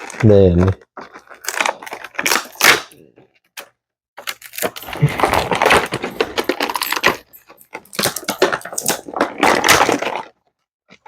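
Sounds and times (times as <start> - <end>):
plastic and cardboard crackling: 0.0 - 11.0.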